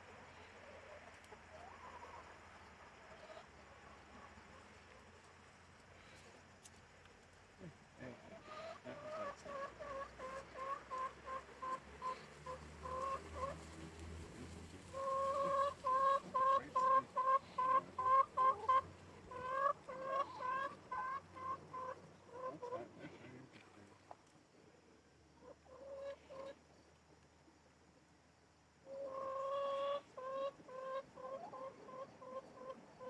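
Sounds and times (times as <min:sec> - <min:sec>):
chickens clucking: 0:00.0 - 0:05.4, 0:08.0 - 0:24.2, 0:25.4 - 0:26.8, 0:28.9 - 0:33.0.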